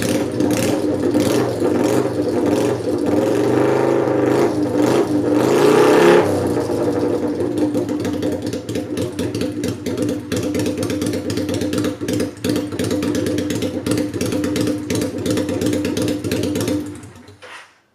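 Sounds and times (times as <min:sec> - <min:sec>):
motorcycle engine idling: 0:00.0 - 0:03.3, 0:06.3 - 0:17.4.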